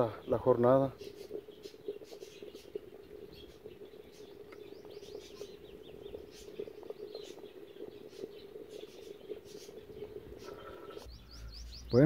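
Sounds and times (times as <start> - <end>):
beans boiling in a pot: 0.0 - 12.0
bird chirping: 0.0 - 12.0.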